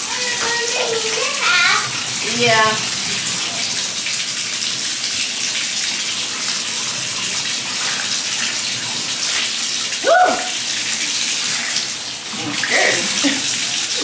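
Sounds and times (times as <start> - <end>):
water pouring into bathtub: 0.0 - 14.0.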